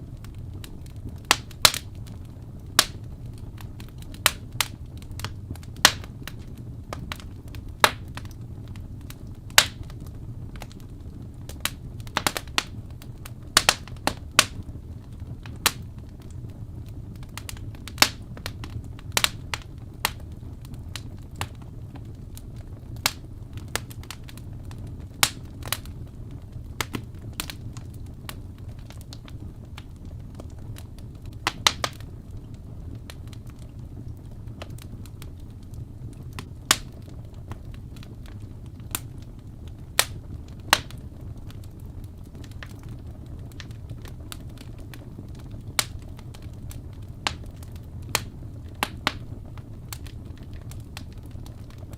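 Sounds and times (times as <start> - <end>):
fire crackling and popping: 0.0 - 51.9
low rumble of flames: 0.0 - 51.9.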